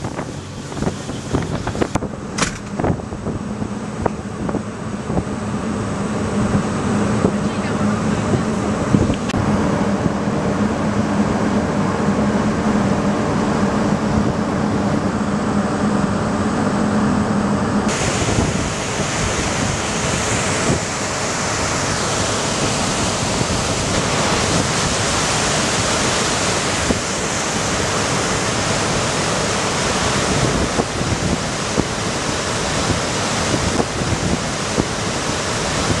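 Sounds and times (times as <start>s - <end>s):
churning wake rushing: 0.0s - 36.0s
ferry engine hum: 0.0s - 36.0s
wind buffeting microphone: 0.0s - 36.0s.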